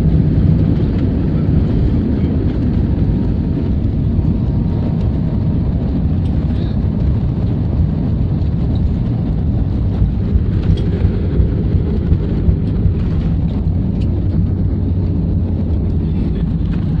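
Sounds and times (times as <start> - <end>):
jet engines and wheels rumbling: 0.0 - 17.0.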